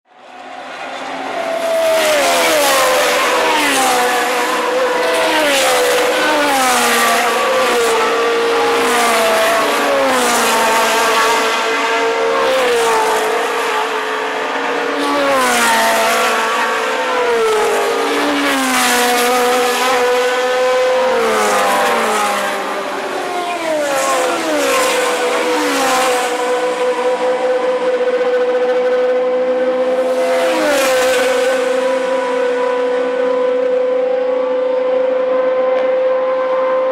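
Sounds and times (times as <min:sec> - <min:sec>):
racing cars passing at speed: 0:00.1 - 0:36.9.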